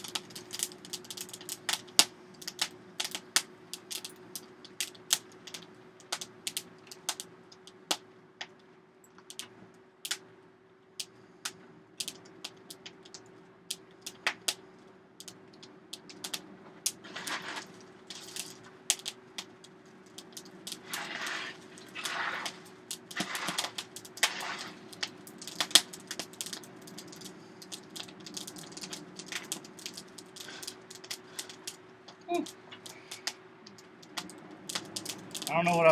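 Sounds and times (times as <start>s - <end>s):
coal fire crackling and popping: 0.0s - 35.9s.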